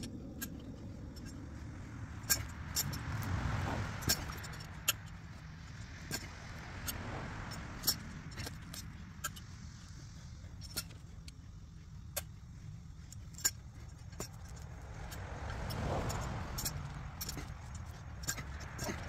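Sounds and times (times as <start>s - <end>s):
road traffic rumble: 0.0s - 19.0s
vehicle passing: 0.0s - 19.0s
metal garden tool clinking: 2.1s - 9.9s, 10.5s - 12.4s, 13.0s - 19.0s.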